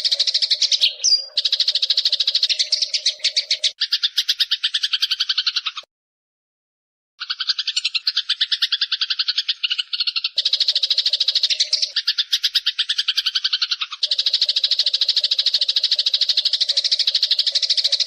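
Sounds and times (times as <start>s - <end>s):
sparrow chattering call: 0.0s - 5.9s, 7.2s - 18.0s.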